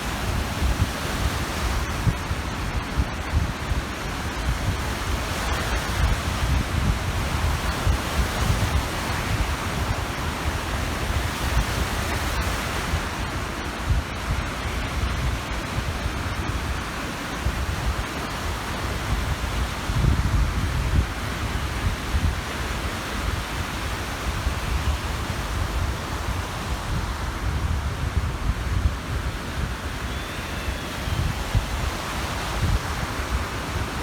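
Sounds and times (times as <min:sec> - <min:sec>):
waves washing onto shore: 0:00.0 - 0:34.0
wind rumbling on microphone: 0:00.0 - 0:34.0.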